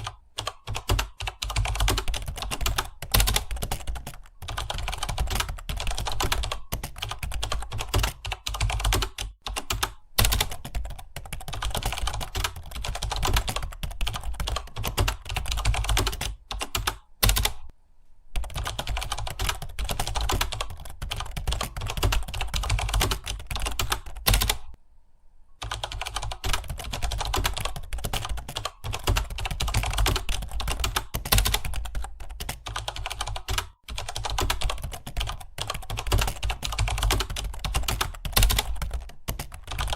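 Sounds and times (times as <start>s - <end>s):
fast typing on keyboard: 0.0s - 17.7s, 18.4s - 24.8s, 25.6s - 39.9s.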